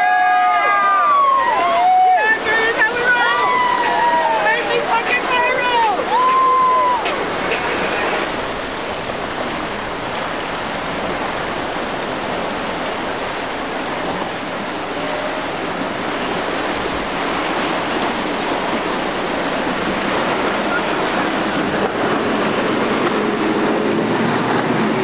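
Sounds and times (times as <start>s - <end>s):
rough sea waves and surf: 0.0s - 25.0s.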